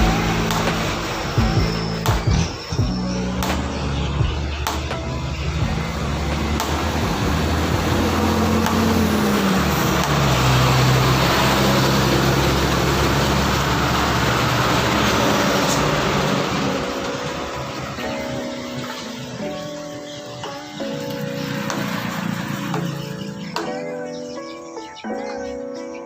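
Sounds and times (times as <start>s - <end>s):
heavy engine running: 0.0s - 23.7s
broad rushing noise: 0.0s - 23.8s.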